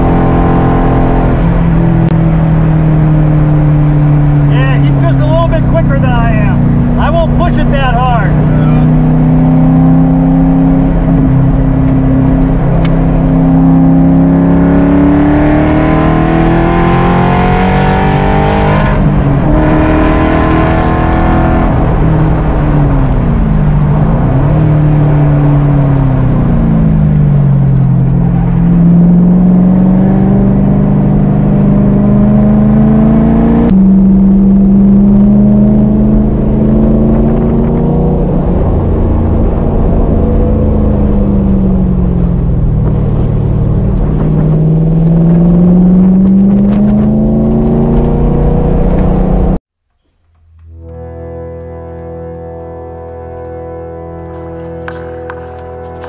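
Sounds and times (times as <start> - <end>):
car engine accelerating: 0.0 - 49.6, 50.4 - 56.0.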